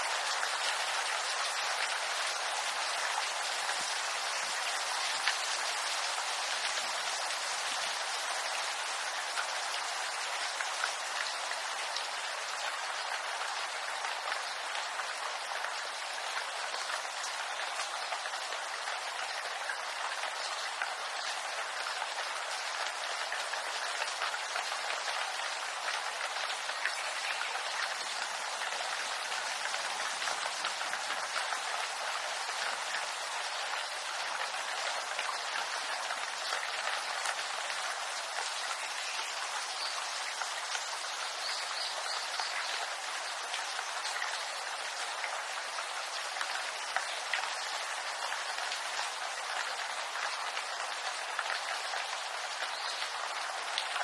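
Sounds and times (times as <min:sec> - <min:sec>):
rain on bamboo leaves: 0:00.0 - 0:54.0.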